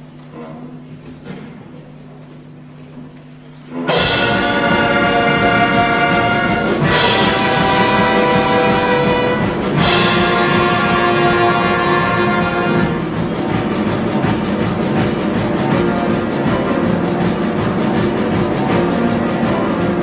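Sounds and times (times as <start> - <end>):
orchestra with brass and timpani: 3.7 - 20.0.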